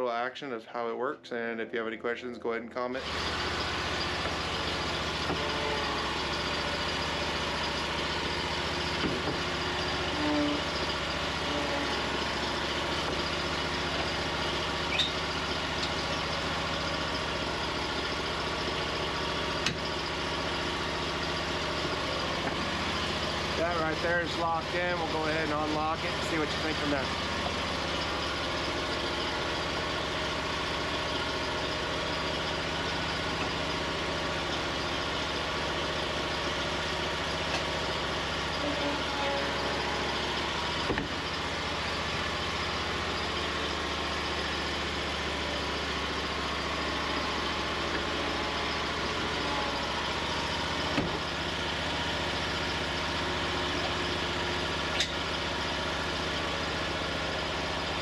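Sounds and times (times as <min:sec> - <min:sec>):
mower engine running: 0:03.0 - 0:58.0.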